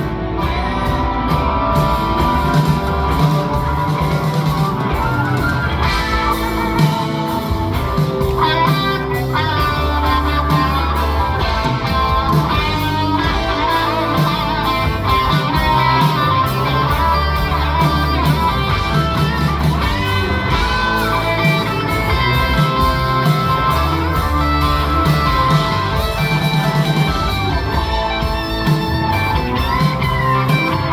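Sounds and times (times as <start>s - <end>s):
bass: 0.0s - 30.9s
drums: 0.0s - 30.9s
lead guitar with bent notes: 0.0s - 30.9s
strummed guitar: 0.0s - 30.9s.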